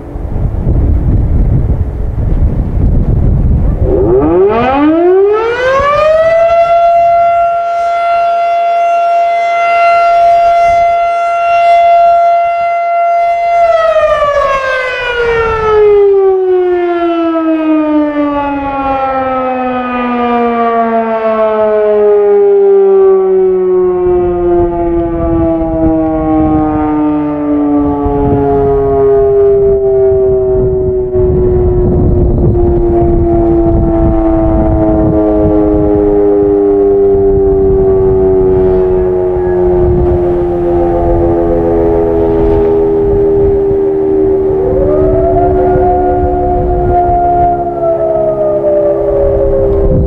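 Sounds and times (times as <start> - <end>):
warning siren wailing: 0.0 - 50.0.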